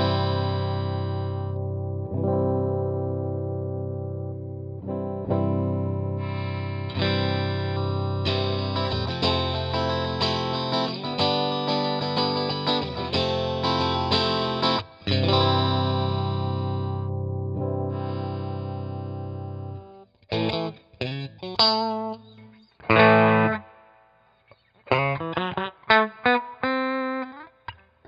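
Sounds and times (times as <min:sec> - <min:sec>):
clean electric guitar playing: 0:00.0 - 0:28.0.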